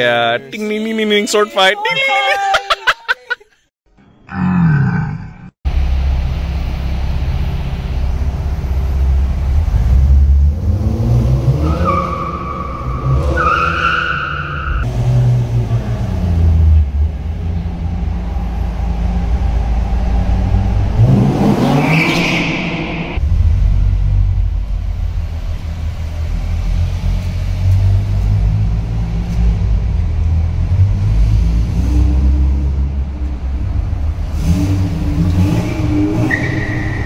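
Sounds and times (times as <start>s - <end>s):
car engines revving: 5.7s - 37.0s.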